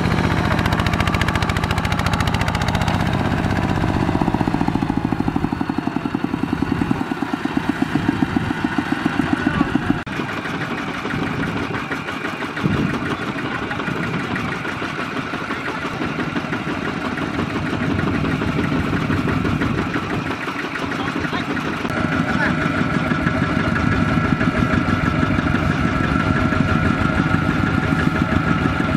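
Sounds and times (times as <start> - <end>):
diesel engine chugging: 0.0 - 28.9
engine idling: 0.0 - 28.9.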